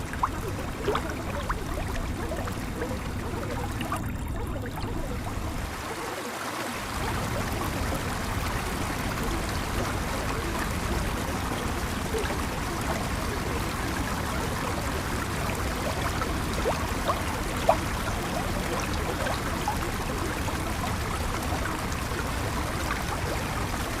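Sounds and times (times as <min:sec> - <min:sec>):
running water bubbling: 0:00.0 - 0:24.0.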